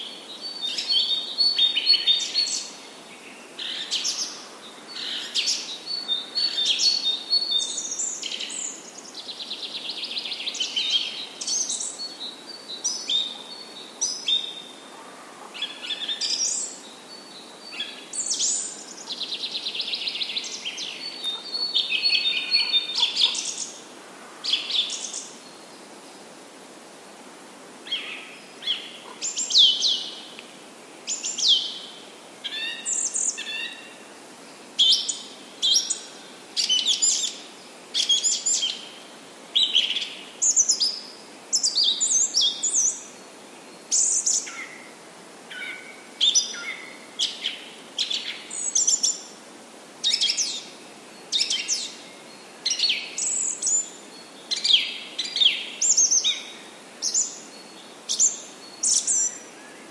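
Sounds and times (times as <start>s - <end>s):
birds singing: 0.0s - 26.0s, 27.8s - 30.4s, 31.1s - 49.4s, 50.0s - 59.9s
faint steady hiss: 0.0s - 59.9s.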